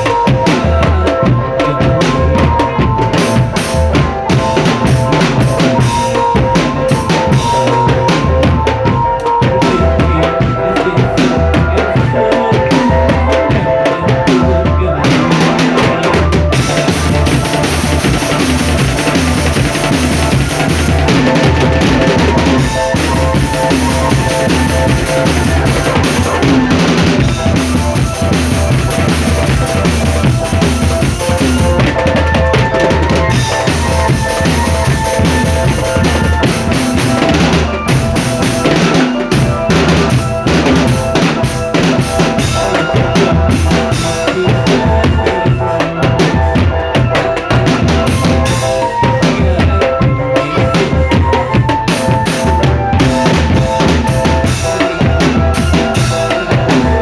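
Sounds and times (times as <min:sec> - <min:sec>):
bass drums pounding: 0:00.0 - 0:57.0
held melody notes: 0:00.0 - 0:57.0
snare drums and rimshots: 0:00.0 - 0:57.0.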